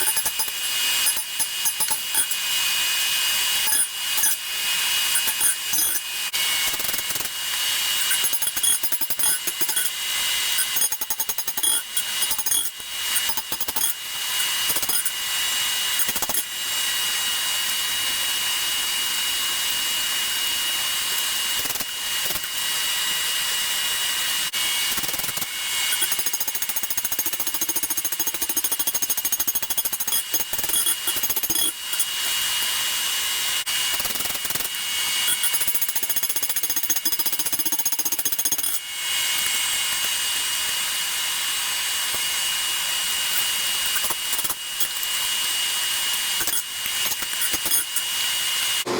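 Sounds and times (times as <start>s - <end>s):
power tool whining: 0.0s - 48.9s.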